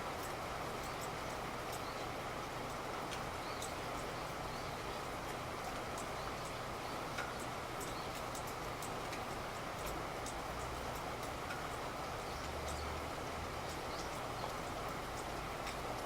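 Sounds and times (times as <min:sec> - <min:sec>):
raindrops ticking: 0:00.0 - 0:16.0
steady rain hissing: 0:00.0 - 0:16.0.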